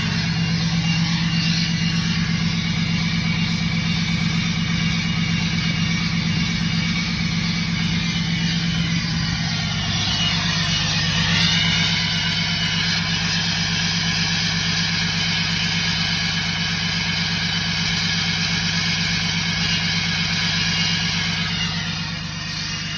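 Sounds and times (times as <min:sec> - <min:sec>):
diesel engine idling: 0:00.0 - 0:22.9
turbocharger whistle: 0:00.0 - 0:22.9.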